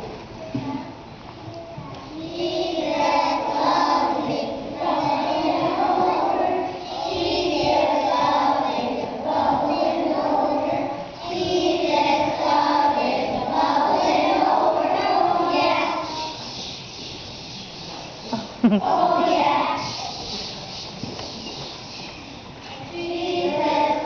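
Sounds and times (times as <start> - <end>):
children singing together: 2.1 - 24.0.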